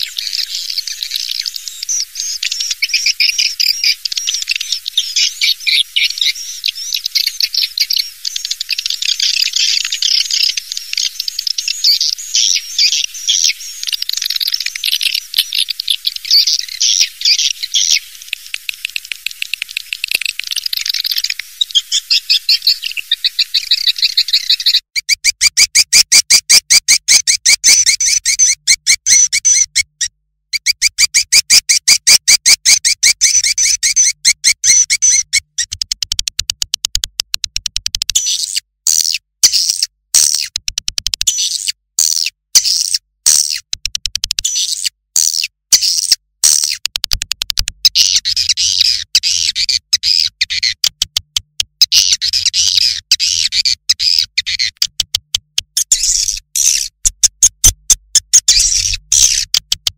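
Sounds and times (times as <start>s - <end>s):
swiftlet clicking chirps: 0.0s - 59.9s.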